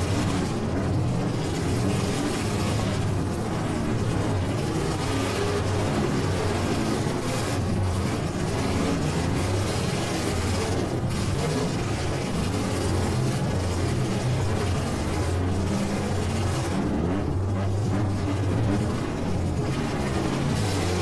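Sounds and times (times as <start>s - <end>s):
truck engines droning: 0.0s - 21.0s.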